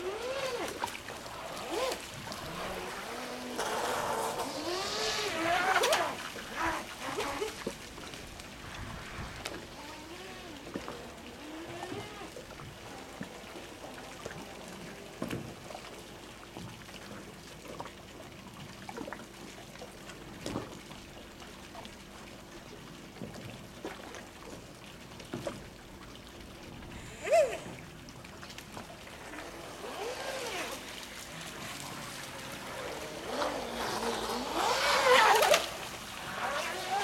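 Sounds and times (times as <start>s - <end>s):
water lapping and trickling: 0.0s - 37.0s.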